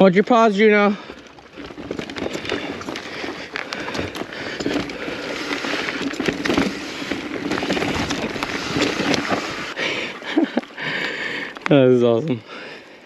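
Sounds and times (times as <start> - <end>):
bike rattling over bumps: 0.0 - 12.8
bike tyres on rough trail: 0.0 - 13.0.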